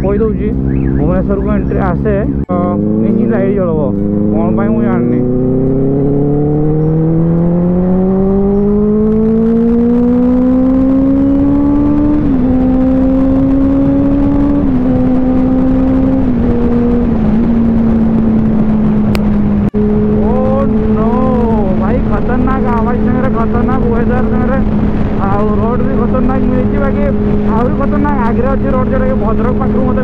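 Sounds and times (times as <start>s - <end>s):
motorcycle engine accelerating: 0.0s - 30.0s
wind rush: 0.0s - 30.0s.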